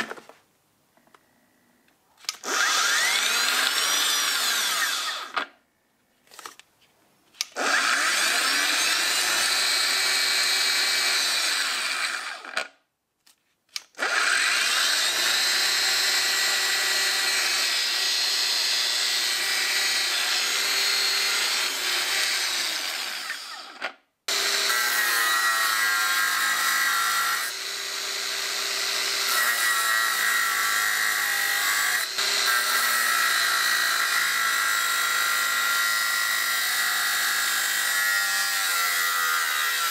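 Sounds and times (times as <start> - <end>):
angle grinder spinning: 2.2 - 5.5, 7.4 - 12.7, 13.9 - 39.9
grinder disc cutting steel: 2.3 - 5.4, 7.4 - 12.7, 14.0 - 39.9.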